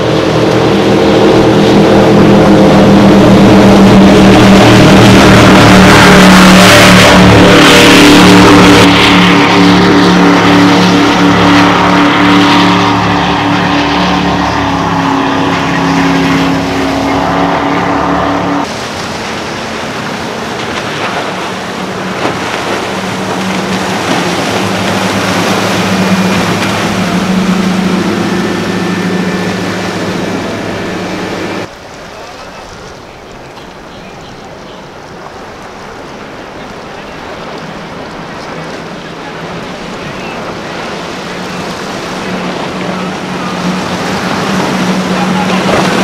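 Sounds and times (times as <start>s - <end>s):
powerboat engine at full throttle: 0.0s - 46.0s
rushing water: 0.0s - 46.0s.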